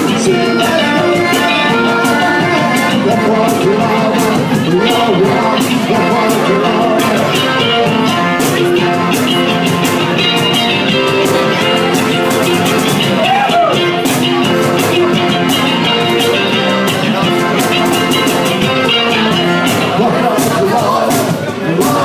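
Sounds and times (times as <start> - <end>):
accordion chords: 0.0 - 22.0
cajon beat: 0.0 - 22.0
strummed electric guitar: 0.0 - 22.0.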